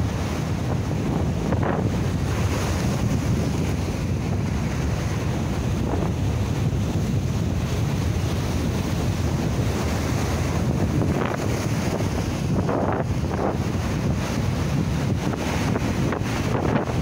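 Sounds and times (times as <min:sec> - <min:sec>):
waves breaking on rocky shore: 0:00.0 - 0:17.0
wind buffeting microphone: 0:00.0 - 0:17.0.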